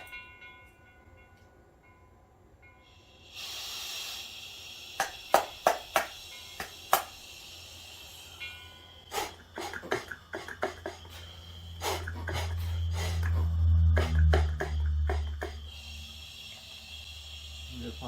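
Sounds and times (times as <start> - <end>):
compressed air hissing: 2.9 - 18.0.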